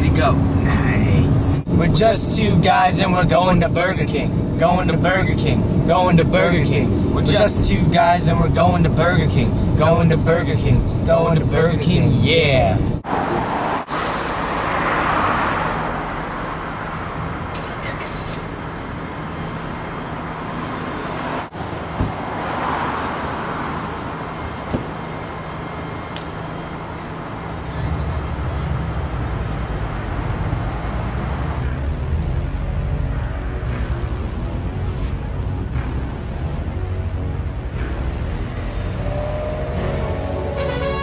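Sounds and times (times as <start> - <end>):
heavy low engine rumble: 0.0 - 13.0, 15.7 - 41.0
cars passing by: 0.0 - 41.0
traffic hum: 0.0 - 41.0.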